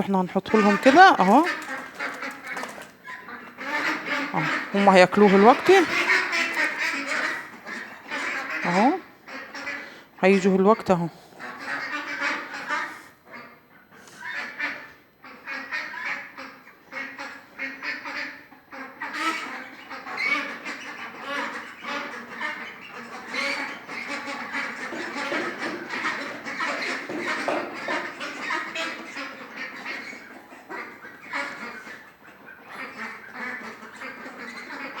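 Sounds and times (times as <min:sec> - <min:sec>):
ducks quacking: 0:00.0 - 0:35.0.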